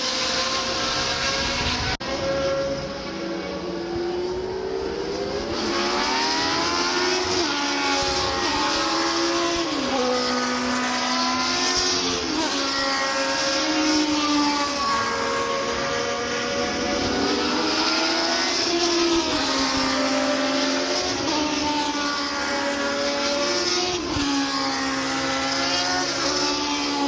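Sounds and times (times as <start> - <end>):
racing engines at high revs: 0.0 - 27.0.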